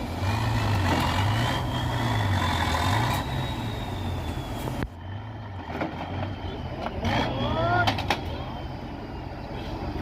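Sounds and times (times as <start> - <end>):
truck engine running hard: 0.0 - 10.0.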